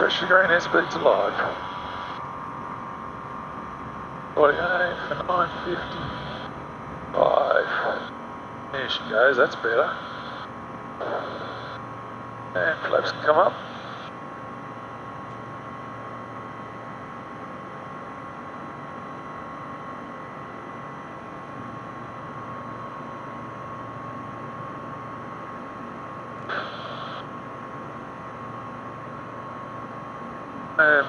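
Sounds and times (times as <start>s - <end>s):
aircraft engine drone with whine: 0.0s - 31.0s.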